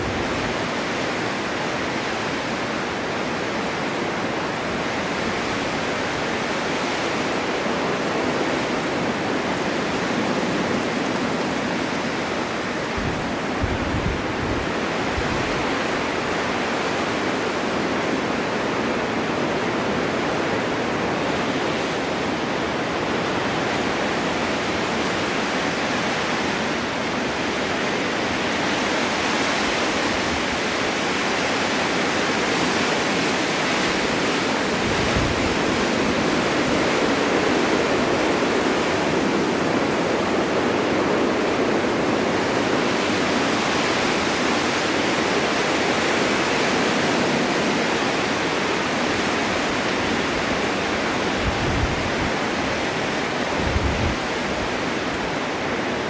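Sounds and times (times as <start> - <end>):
strong wind blowing: 0.0 - 56.0.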